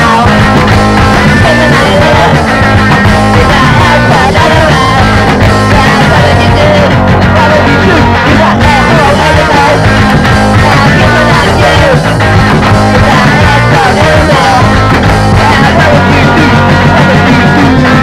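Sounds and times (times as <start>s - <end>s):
punk rock band playing: 0.0s - 18.0s.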